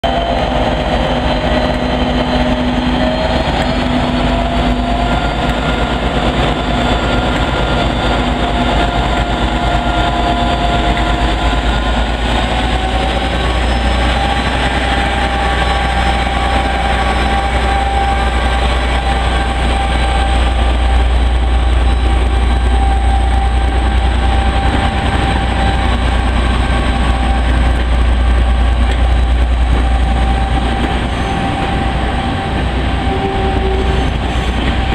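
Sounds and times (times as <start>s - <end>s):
coaches rolling on rails: 0.0s - 34.9s
diesel locomotive engine rumbling: 0.0s - 34.9s.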